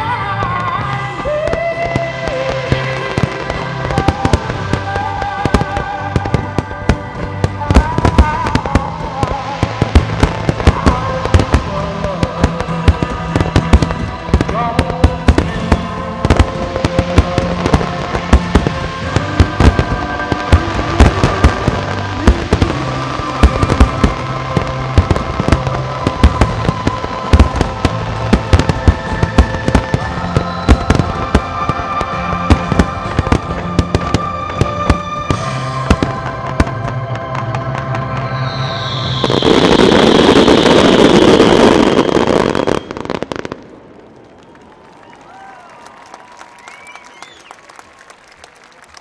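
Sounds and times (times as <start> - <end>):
music soundtrack: 0.0 - 45.5
fireworks bursting: 0.0 - 45.6.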